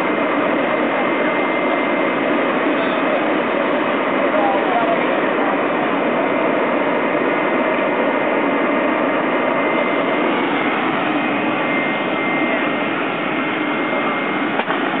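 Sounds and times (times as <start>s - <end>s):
furnace blast air rushing: 0.0s - 15.0s.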